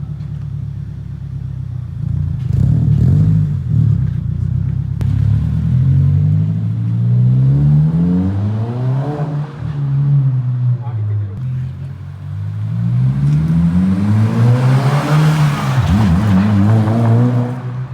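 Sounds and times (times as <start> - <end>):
car engine revving: 2.0 - 10.8, 11.4 - 17.9.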